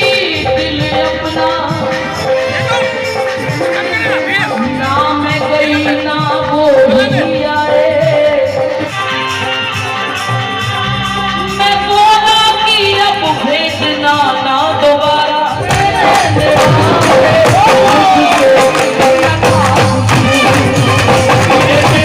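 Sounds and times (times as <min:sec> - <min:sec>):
devotional song singing: 0:00.0 - 0:22.0
melodic instrumental accompaniment: 0:00.0 - 0:22.0.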